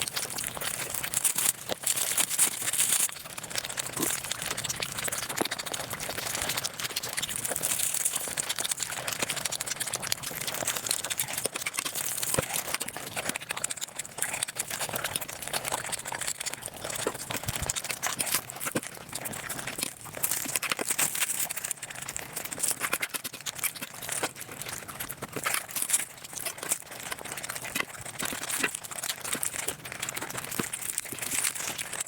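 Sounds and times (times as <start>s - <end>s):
sped-up chewing clicks: 0.0s - 32.0s.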